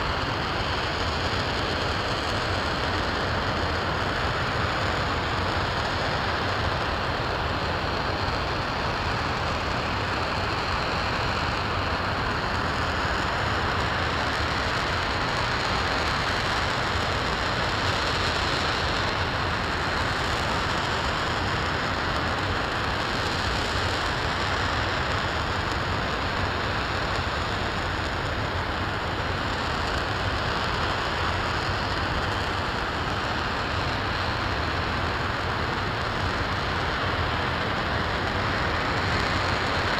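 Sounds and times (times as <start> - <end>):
rocket engine roaring: 0.0 - 39.9.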